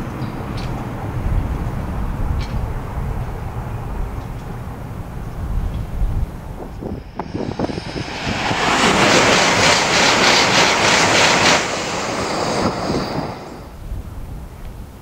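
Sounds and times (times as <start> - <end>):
high-speed train passing: 0.0 - 14.5.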